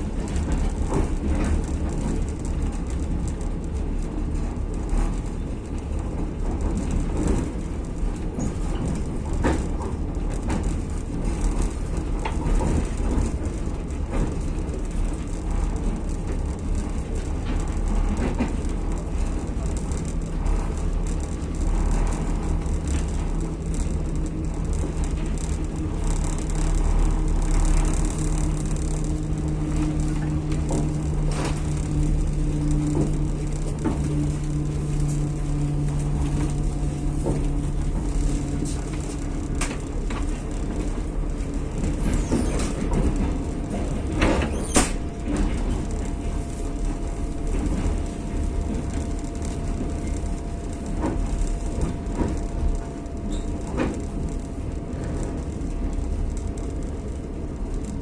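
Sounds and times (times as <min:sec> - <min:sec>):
steady low hum: 0:00.0 - 0:58.0
train coach rumbling on rails: 0:00.0 - 0:58.0.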